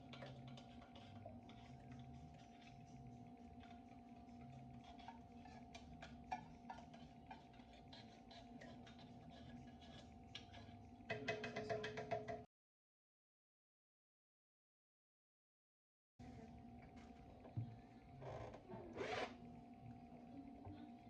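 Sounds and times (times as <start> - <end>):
faint steady hum: 0.0 - 12.4, 16.2 - 21.0.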